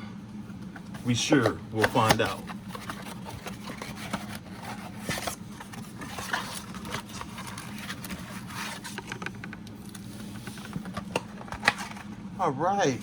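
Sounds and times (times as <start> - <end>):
low steady hum: 0.0 - 13.0
packaging rustling and clicking: 0.8 - 12.1.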